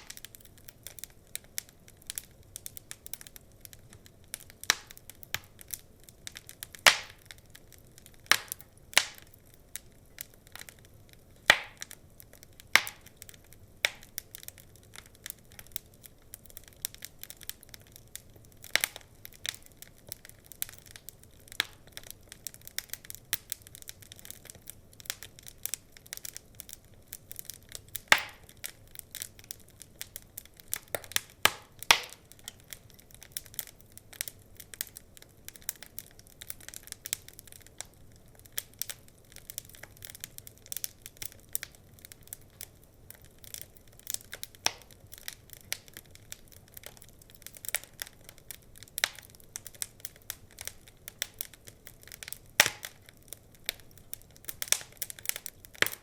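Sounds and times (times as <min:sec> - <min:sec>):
burning logs popping: 0:00.0 - 0:56.0
wood fire crackling: 0:00.0 - 0:56.0.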